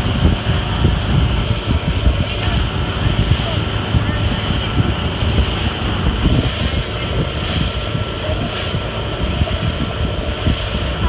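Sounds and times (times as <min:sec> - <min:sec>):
motorboat running: 0:00.0 - 0:11.0
rush of boat wake: 0:00.0 - 0:11.0
wind buffeting microphone: 0:00.0 - 0:11.0.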